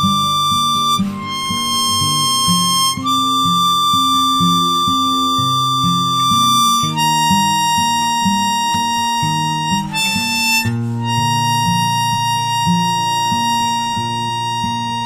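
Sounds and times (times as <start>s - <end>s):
harmonica holding long notes: 0.0s - 15.0s
picked acoustic guitar: 0.0s - 15.0s.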